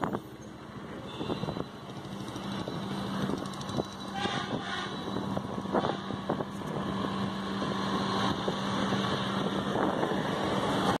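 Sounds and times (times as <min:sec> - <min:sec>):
steady engine hum: 0:00.0 - 0:11.0
wind noise on microphone: 0:00.0 - 0:11.0.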